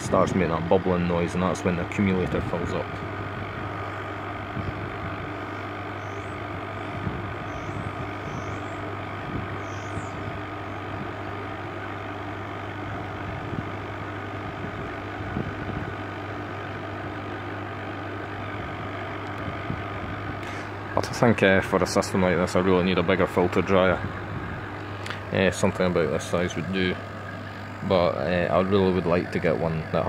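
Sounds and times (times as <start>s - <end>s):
compressor and fan hum: 0.0s - 30.0s.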